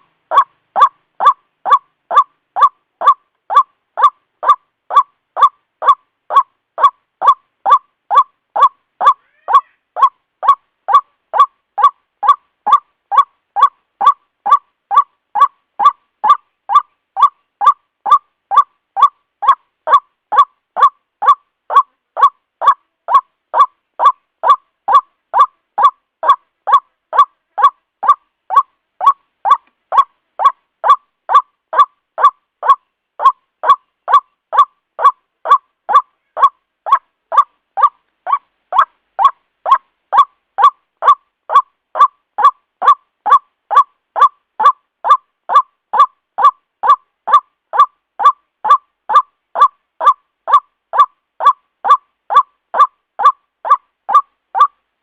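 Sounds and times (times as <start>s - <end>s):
waterhen calling: 0.0s - 54.8s.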